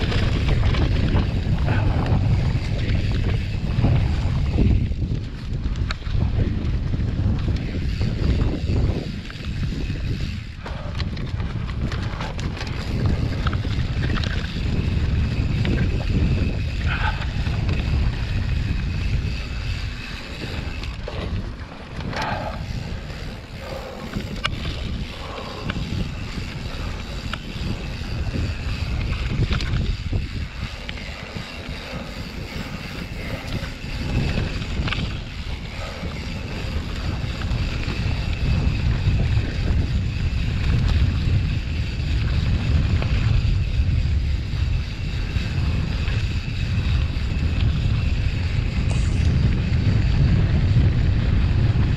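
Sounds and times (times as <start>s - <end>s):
bike clicks and rattles: 0.0s - 51.9s
wind buffeting microphone: 0.0s - 51.9s.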